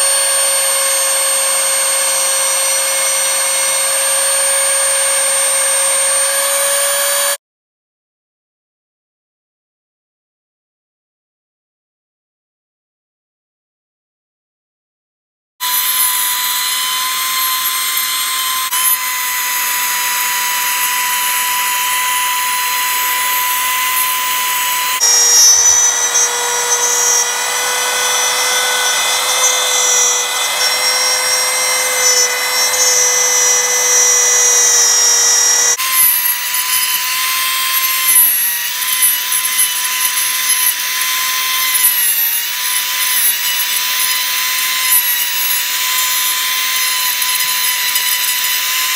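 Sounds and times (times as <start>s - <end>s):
router bit cutting wood: 0.0s - 7.4s, 15.6s - 48.9s
router motor whine: 0.0s - 7.4s, 15.6s - 48.9s.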